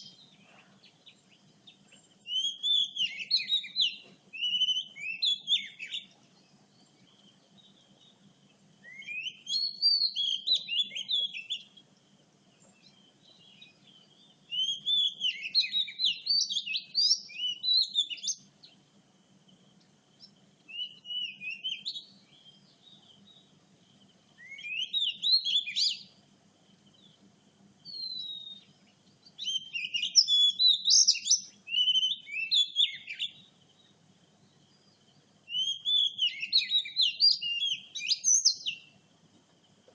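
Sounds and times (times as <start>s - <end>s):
bird singing whistled notes: 0.0s - 11.9s, 12.6s - 18.9s, 19.5s - 26.2s, 27.8s - 39.0s.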